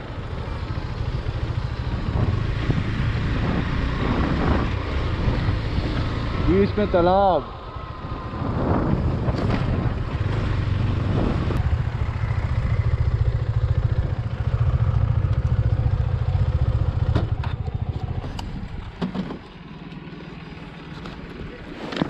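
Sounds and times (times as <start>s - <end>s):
motorcycle engine running: 0.0s - 21.7s.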